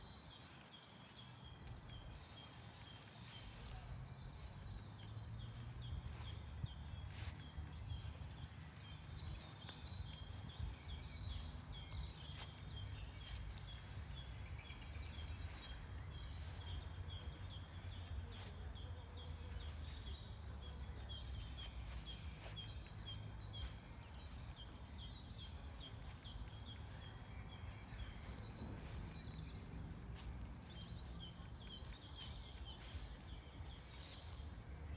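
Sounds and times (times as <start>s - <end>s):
songbirds chirping and trilling: 0.0s - 34.9s
steady low rumble: 3.8s - 34.9s.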